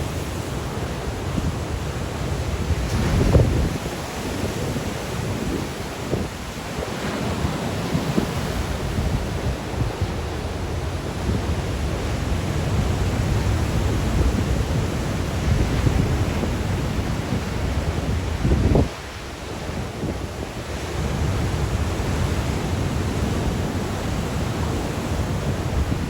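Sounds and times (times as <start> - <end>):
sea waves breaking: 0.0 - 26.0
wind buffeting microphone: 0.0 - 26.0.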